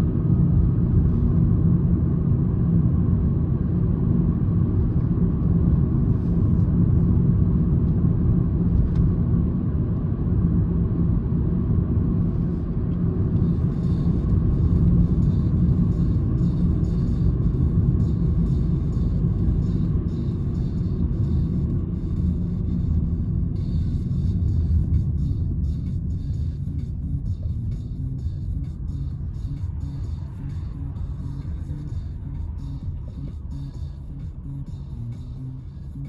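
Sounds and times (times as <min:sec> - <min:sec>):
car engine droning: 0:00.0 - 0:36.0.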